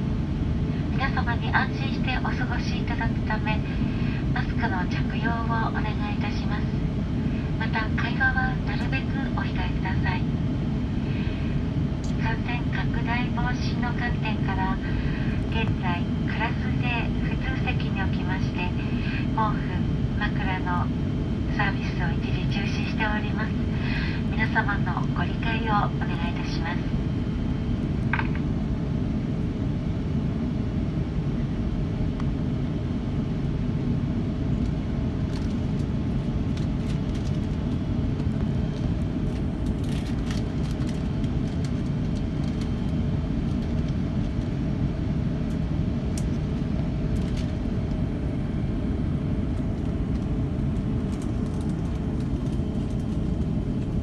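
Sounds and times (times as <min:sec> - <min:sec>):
aircraft cabin rumble: 0:00.0 - 0:54.0
faint steady hum: 0:00.0 - 0:54.0.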